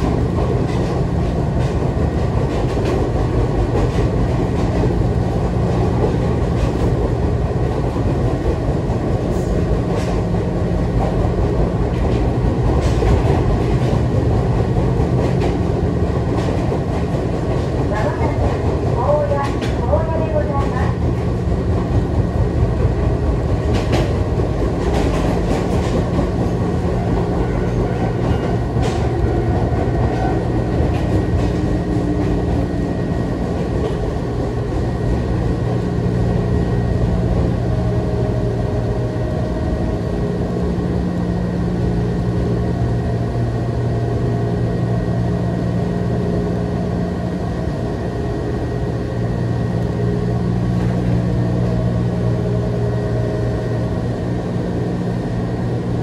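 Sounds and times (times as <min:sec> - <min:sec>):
train wheels and motors rumbling: 0:00.0 - 0:56.0.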